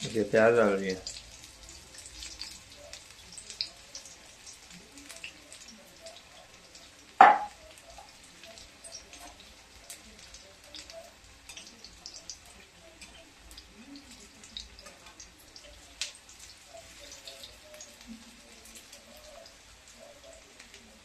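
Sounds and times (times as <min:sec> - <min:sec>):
food frying in hot oil: 0:00.0 - 0:21.0.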